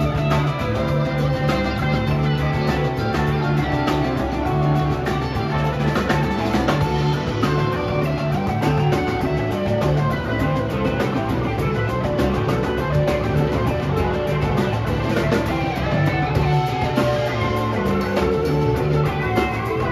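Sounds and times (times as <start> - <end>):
bass line: 0.0 - 19.9
drum kit: 0.0 - 19.9
electric guitars: 0.0 - 19.9
hand drum: 0.0 - 19.9.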